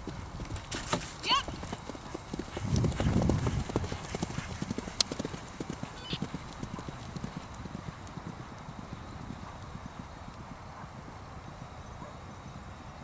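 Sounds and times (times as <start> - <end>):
horse hooves galloping on grass: 0.0 - 13.0.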